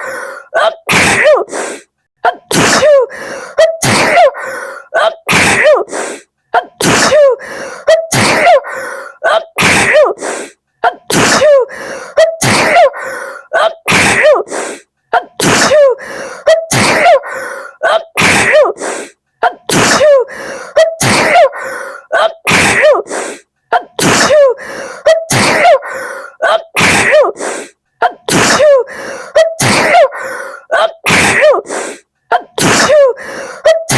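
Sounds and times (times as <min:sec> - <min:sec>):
woman sneezing: 0:00.0 - 0:33.9.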